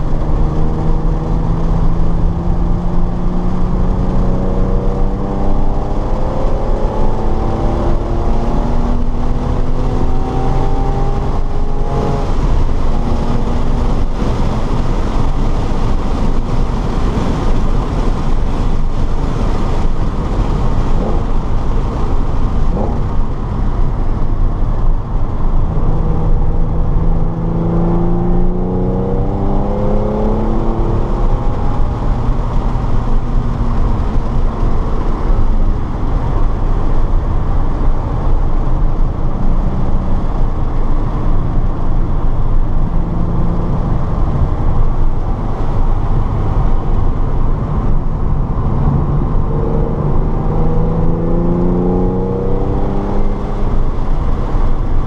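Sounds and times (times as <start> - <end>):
car engine accelerating hard: 0.0 - 55.0
rushing noise: 3.9 - 55.0.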